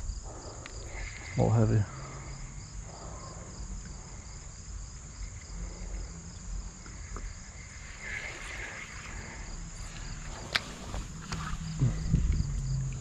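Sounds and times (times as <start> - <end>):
insects buzzing: 0.0 - 13.0
insects pulsing chirp: 0.0 - 13.0.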